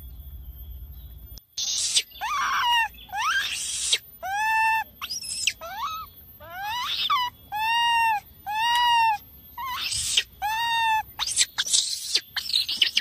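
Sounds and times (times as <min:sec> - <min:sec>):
baby monkey cooing and screeching: 0:01.6 - 0:13.0.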